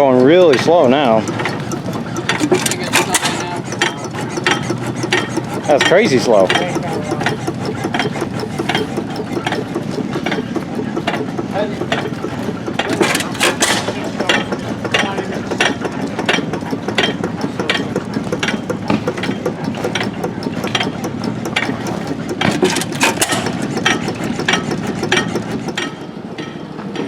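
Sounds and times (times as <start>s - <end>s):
regular mechanical clicks: 0.0s - 27.0s
stationary engine running slowly: 0.0s - 27.0s.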